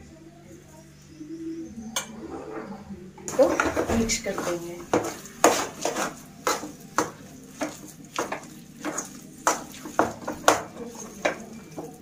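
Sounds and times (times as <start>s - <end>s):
metal spoon scraping a metal pan: 2.0s - 12.0s.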